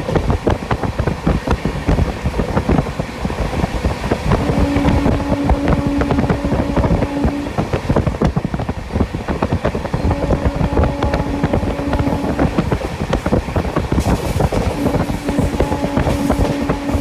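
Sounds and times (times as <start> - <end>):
train rumble inside coach: 0.0 - 17.0
wheels clicking over rails: 0.0 - 17.0.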